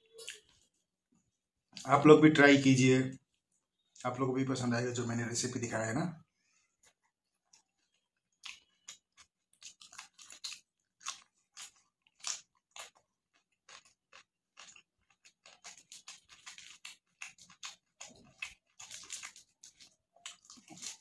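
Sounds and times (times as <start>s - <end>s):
person chewing and crunching food: 0.0s - 2.0s, 5.8s - 21.0s.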